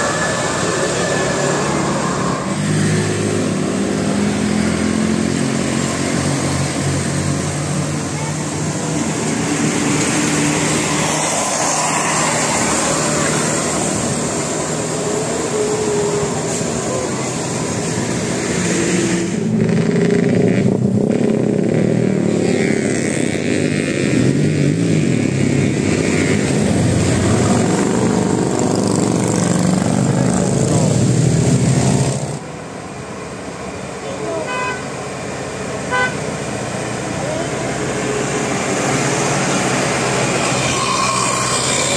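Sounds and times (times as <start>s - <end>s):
passing road traffic: 0.0s - 41.9s.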